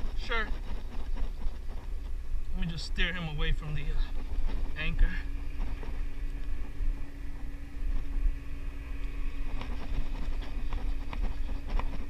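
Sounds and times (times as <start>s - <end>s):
boat motor humming: 0.0s - 12.0s
wind rumbling on microphone: 0.0s - 12.0s.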